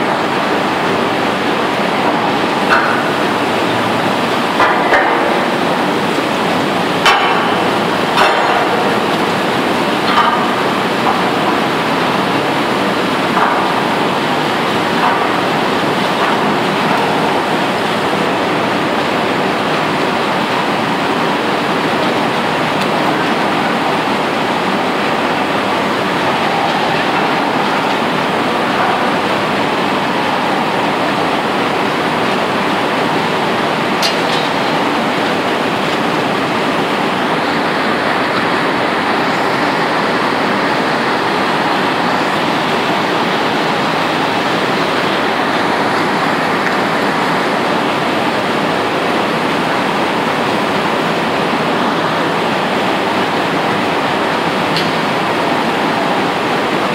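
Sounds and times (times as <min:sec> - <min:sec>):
furnace rushing roar: 0:00.0 - 0:56.9.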